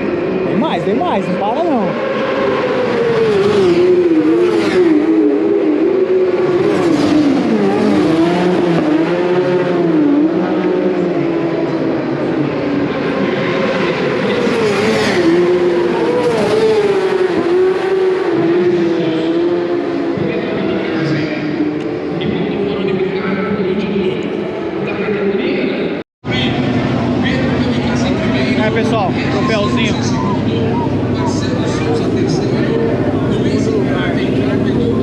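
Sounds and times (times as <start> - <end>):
racing motorcycles passing: 0.0 - 25.3, 26.3 - 35.0.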